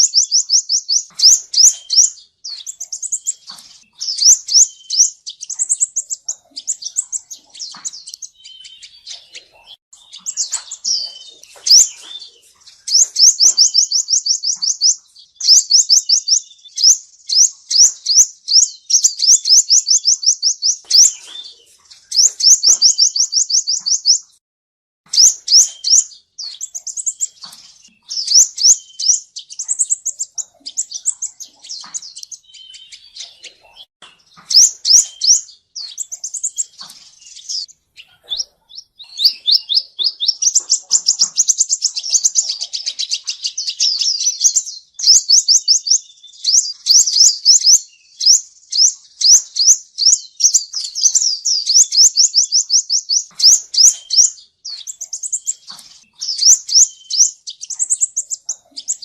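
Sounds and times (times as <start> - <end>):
sunbird singing trills: 0.0 - 24.4, 25.1 - 59.0.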